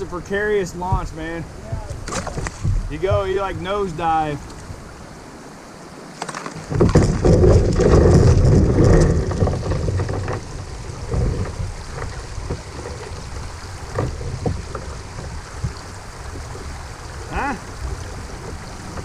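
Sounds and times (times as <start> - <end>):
paddle splashes: 0.0 - 19.0
water washing: 0.0 - 19.0
wind rumbling on microphone: 0.0 - 19.0.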